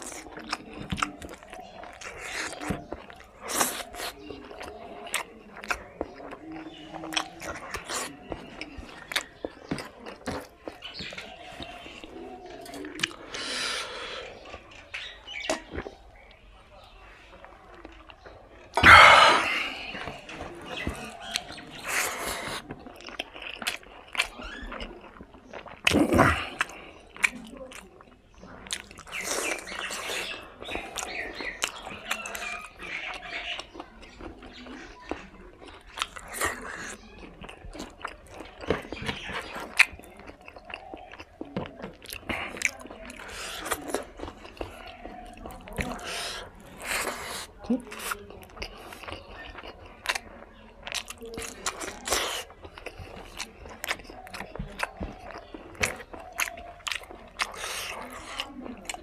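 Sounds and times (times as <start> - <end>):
person chewing with wet smacks: 0.0 - 59.0.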